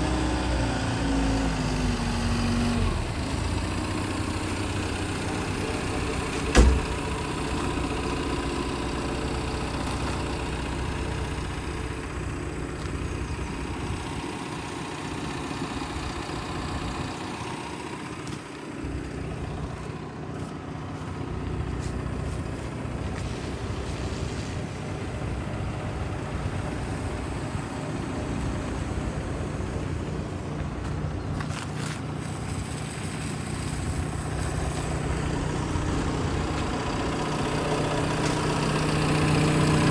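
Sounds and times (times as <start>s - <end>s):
excavator diesel engine idling: 0.0s - 39.9s.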